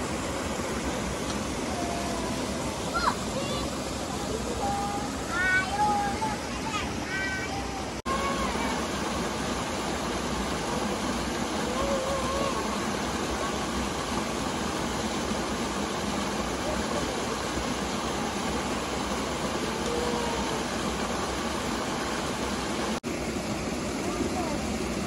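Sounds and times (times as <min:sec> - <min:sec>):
waterfall splashing into pool: 0:00.0 - 0:25.0.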